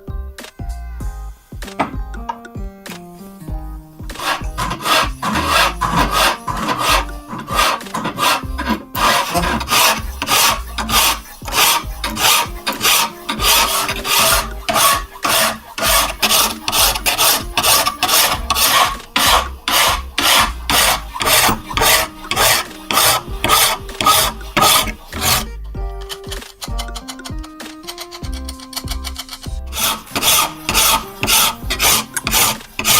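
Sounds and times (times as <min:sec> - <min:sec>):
hand filing rasping strokes: 0:04.1 - 0:25.6, 0:27.8 - 0:32.9.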